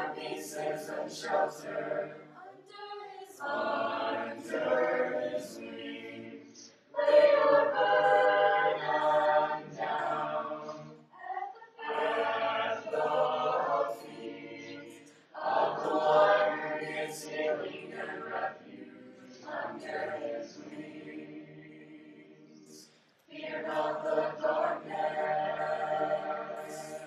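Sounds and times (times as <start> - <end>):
voices singing in harmony: 0.0 - 27.0.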